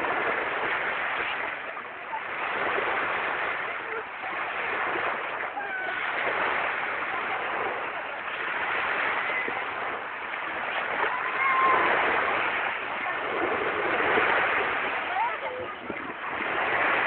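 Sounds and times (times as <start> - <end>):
small waves washing on sand: 0.0 - 17.0.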